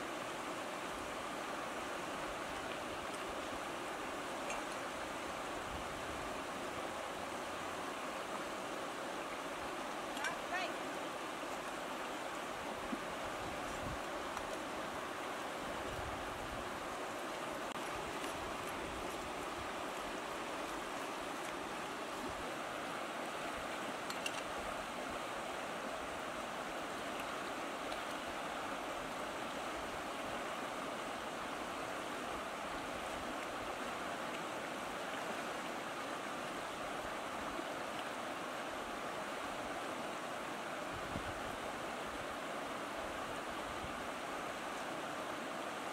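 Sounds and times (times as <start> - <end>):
river water rushing: 0.0 - 45.9
water lapping at stony bank: 0.2 - 45.9.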